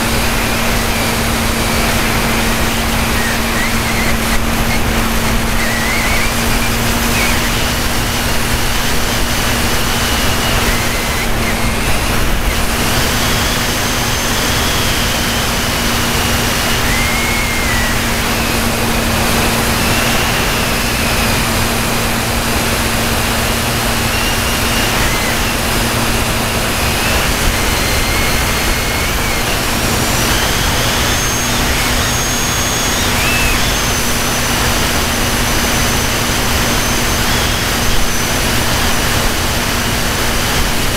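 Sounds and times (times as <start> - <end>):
model airplane motor drone: 0.0 - 40.9.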